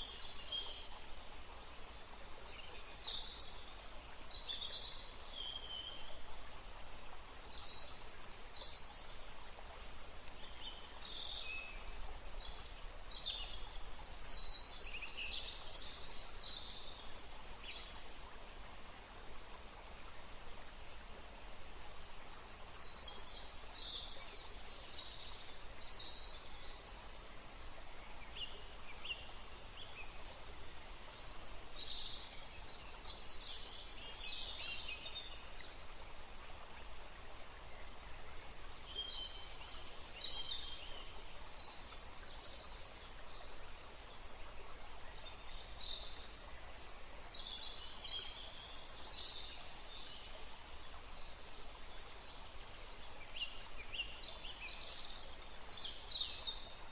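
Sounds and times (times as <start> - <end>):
songbirds chirping: 0.0 - 56.9
steady background hiss: 0.0 - 56.9.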